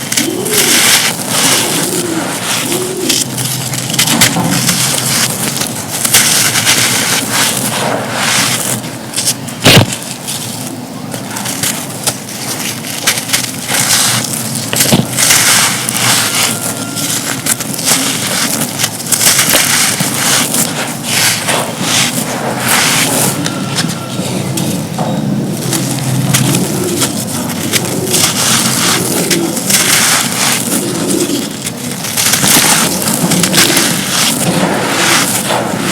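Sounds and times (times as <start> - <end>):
sharp crack: 0.0 - 24.0, 24.6 - 35.9
cups being crushed by hand: 0.0 - 35.9.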